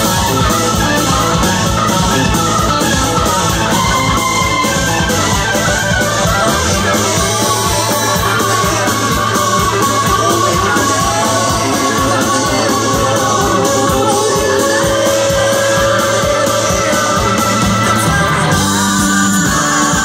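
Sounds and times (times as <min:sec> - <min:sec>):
drum beat: 0:00.0 - 0:20.0
electric guitar: 0:00.0 - 0:20.0
live rock band playing: 0:00.0 - 0:20.0.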